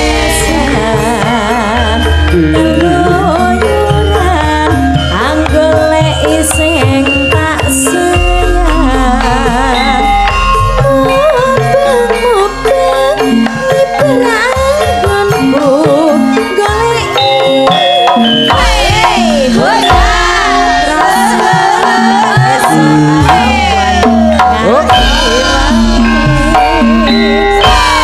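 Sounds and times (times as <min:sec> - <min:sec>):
hand drum: 0:00.0 - 0:28.0
metallophone notes: 0:00.0 - 0:28.0
woman singing through microphone: 0:00.0 - 0:28.0.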